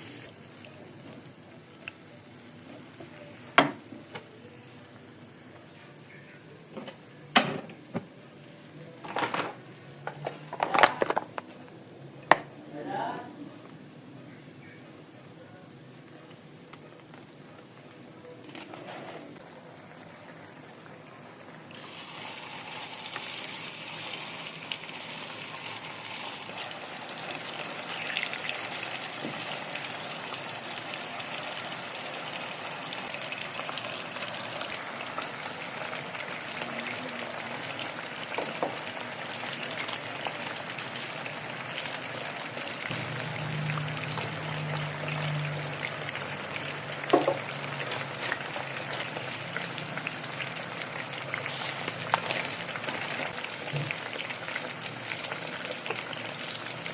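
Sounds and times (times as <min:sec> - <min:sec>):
food sizzling in a pan: 0:00.0 - 0:07.2, 0:16.2 - 0:56.9.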